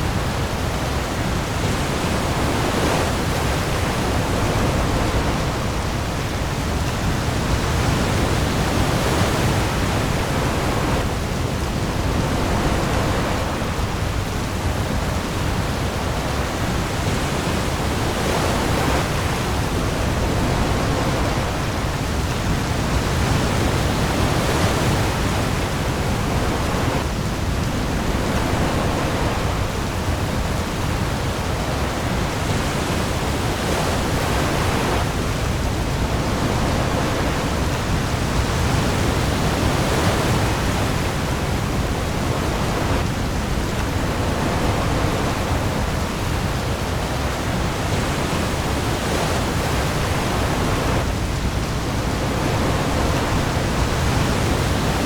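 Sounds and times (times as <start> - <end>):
heavy rain on the sea: 0.0 - 55.0
waves: 0.0 - 55.0.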